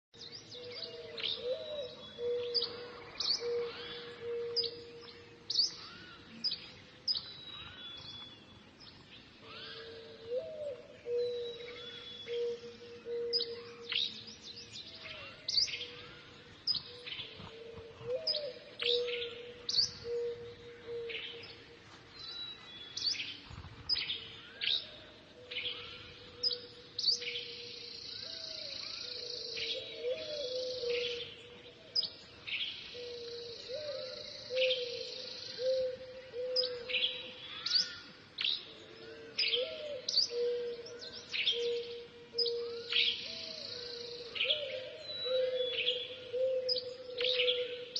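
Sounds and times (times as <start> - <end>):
small birds chirping: 0.2 - 47.9.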